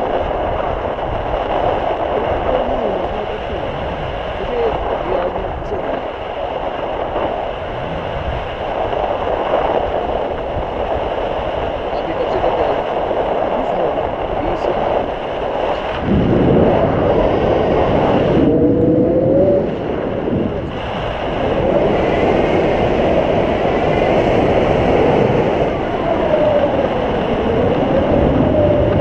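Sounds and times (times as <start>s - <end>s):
wind roaring over microphone: 0.0s - 29.0s.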